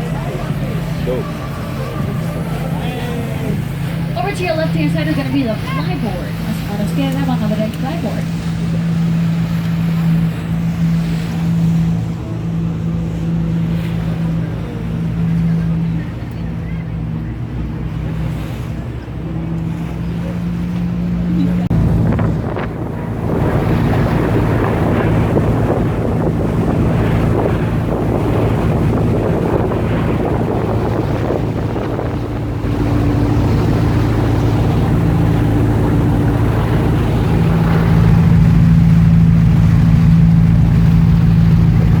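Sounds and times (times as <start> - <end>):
boat engine running: 0.0 - 42.0
water rushing along hull: 0.0 - 42.0
wind buffeting microphone: 0.0 - 42.0.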